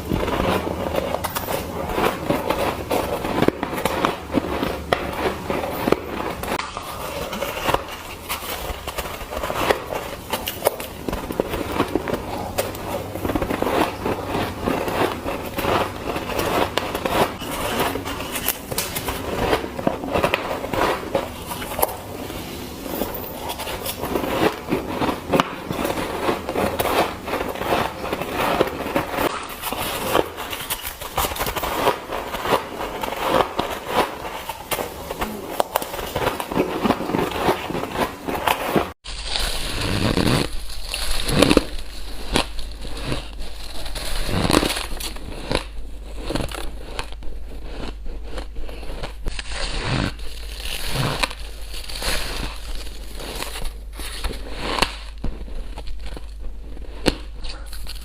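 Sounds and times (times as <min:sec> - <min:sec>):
chewing crunchy ice: 0:00.0 - 0:58.0
steady low hum: 0:00.0 - 0:58.0.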